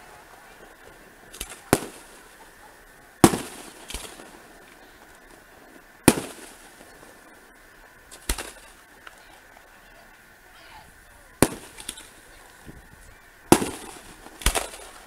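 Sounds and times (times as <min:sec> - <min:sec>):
firework bangs echoing: 0:00.0 - 0:08.9, 0:11.2 - 0:15.0.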